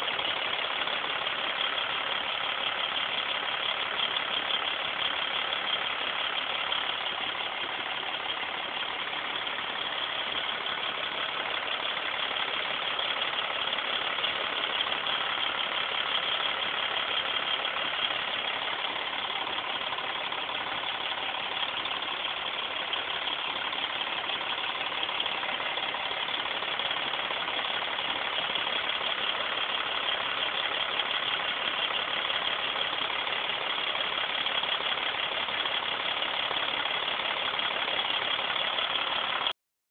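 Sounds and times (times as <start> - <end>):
diesel truck engine idling: 0.0 - 39.6.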